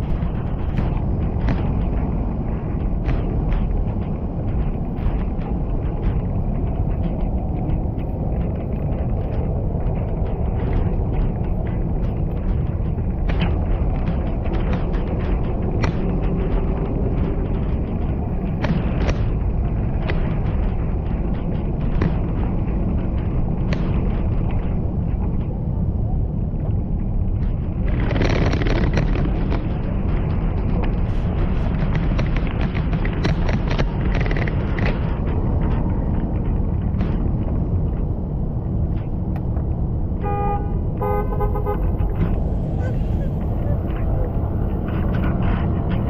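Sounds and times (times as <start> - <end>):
street noise: 0.0 - 46.0
stroller wheels rumbling on sidewalk: 0.0 - 46.0
wheels knocking over pavement joints: 0.0 - 46.0.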